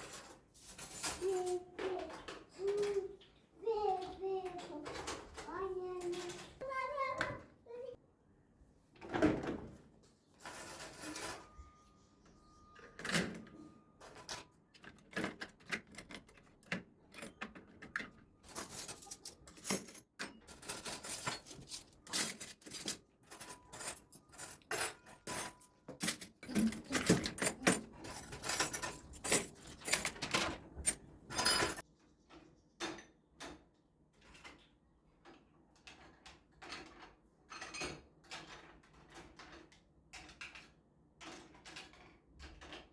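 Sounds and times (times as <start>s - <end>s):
household objects clicking and clattering: 0.0s - 7.9s, 10.4s - 42.9s.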